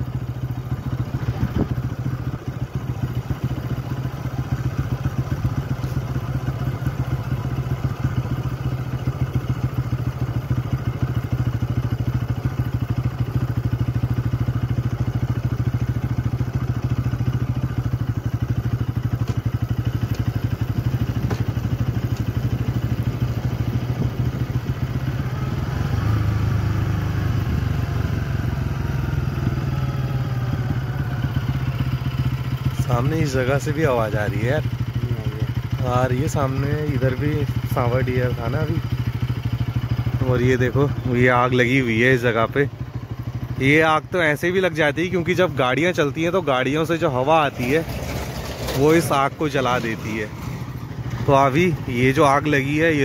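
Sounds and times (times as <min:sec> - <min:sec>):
vehicle engine droning: 0:00.0 - 0:53.0.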